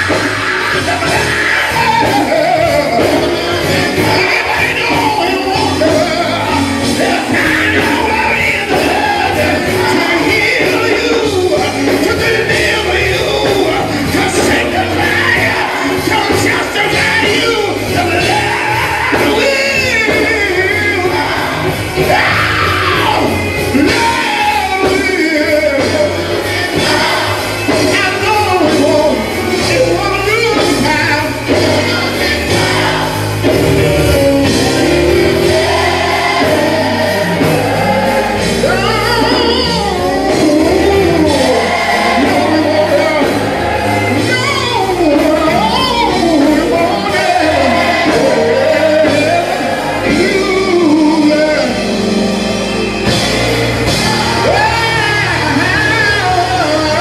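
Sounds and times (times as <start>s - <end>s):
gospel choir singing: 0.0s - 57.0s
instrumental accompaniment: 0.0s - 57.0s
steady bass line: 0.0s - 57.0s.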